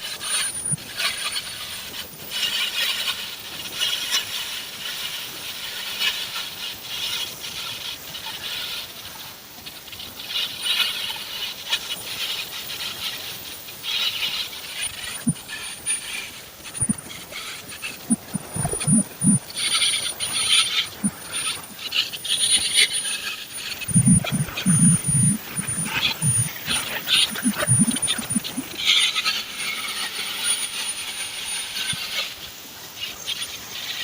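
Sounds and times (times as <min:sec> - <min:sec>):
welding arc crackling and hissing: 0:00.0 - 0:34.0.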